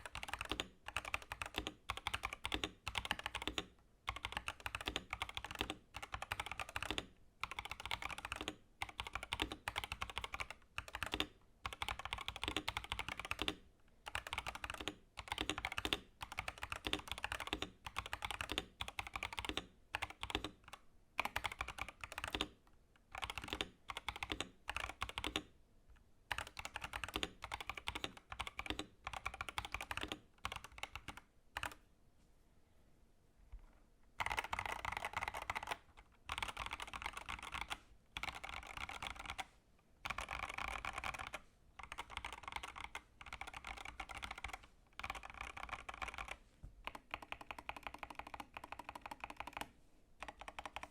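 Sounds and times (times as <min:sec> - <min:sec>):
mechanical keyboard typing: 0:00.0 - 0:25.5, 0:26.3 - 0:31.8, 0:34.2 - 0:50.9.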